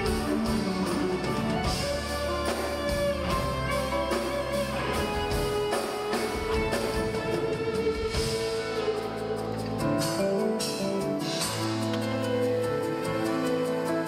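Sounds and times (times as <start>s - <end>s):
electric guitar leading: 0.0s - 14.0s
live band playing: 0.0s - 14.0s.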